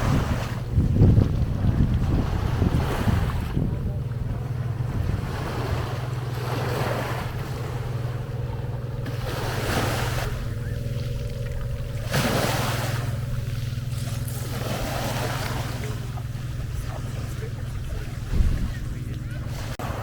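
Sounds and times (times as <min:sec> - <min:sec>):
low boat motor hum: 0:00.0 - 0:20.0
sea waves washing in: 0:00.0 - 0:20.0
wind buffeting microphone: 0:00.0 - 0:20.0.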